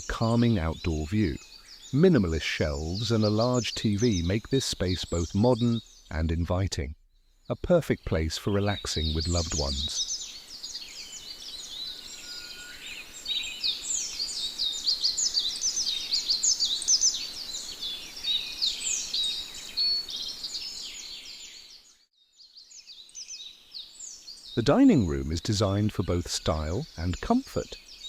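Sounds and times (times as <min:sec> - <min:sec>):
birds chirping and singing: 0:00.0 - 0:06.8, 0:07.5 - 0:28.0.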